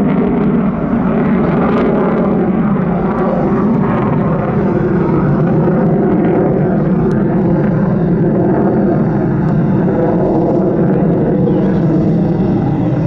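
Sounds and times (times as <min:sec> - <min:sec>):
fighter jet flying low: 0:00.0 - 0:13.0.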